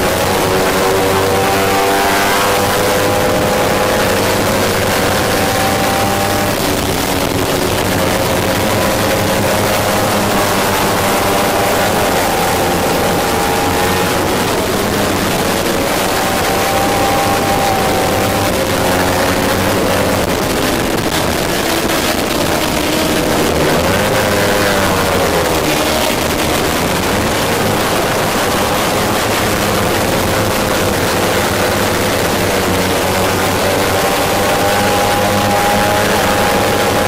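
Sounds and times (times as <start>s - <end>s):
motorcycle engine at high revs: 0.0s - 37.0s
rushing wind: 0.0s - 37.0s.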